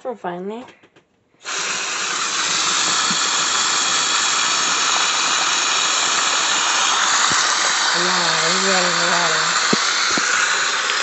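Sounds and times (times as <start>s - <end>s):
faucet water splashing into basin: 1.4s - 11.0s.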